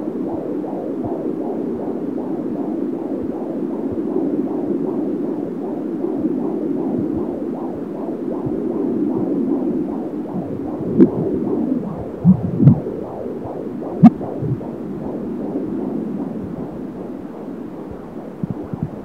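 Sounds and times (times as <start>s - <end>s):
fast fetal heartbeat pulse: 0.0s - 19.0s.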